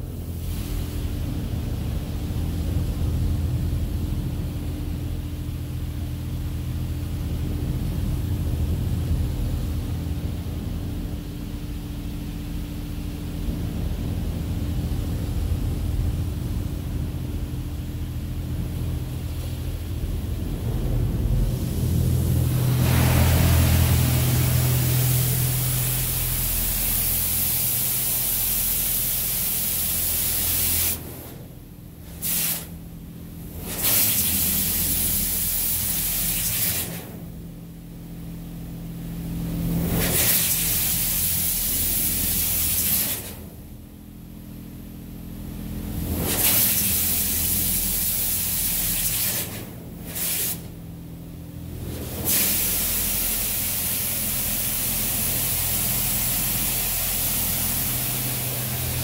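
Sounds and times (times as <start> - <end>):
water jets blasting van body: 0.0 - 43.8, 45.8 - 59.0
steady low hum: 0.0 - 59.0.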